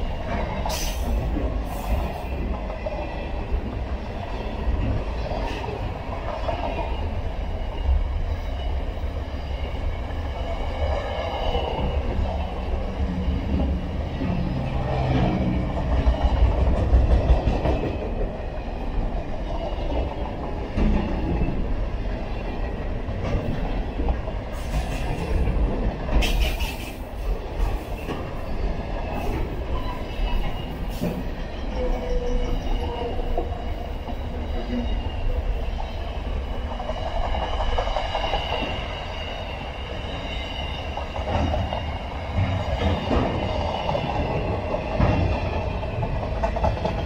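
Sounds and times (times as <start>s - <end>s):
train wagons clicking and clanking: 0.0s - 47.0s
train wheels rumbling on rail: 0.0s - 47.0s.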